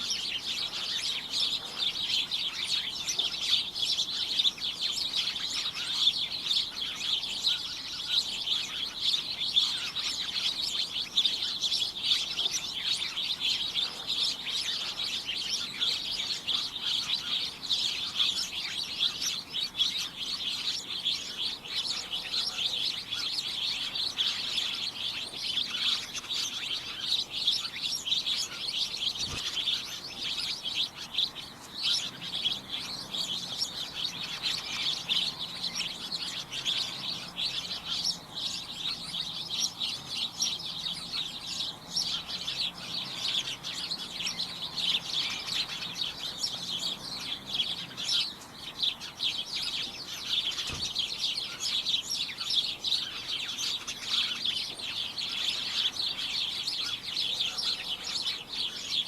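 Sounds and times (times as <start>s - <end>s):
flock of small birds chirping: 0.0s - 59.0s.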